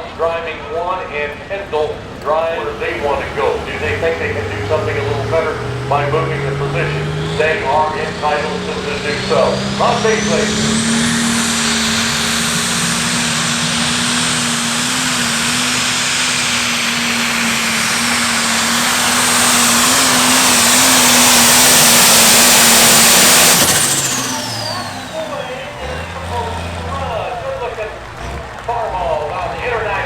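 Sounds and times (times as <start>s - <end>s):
diesel tractor engine at full throttle: 0.0s - 30.0s
turbo whine: 1.5s - 28.5s.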